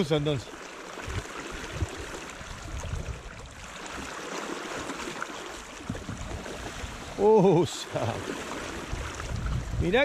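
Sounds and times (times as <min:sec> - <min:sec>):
waves lapping against kayak hull: 0:00.0 - 0:10.0.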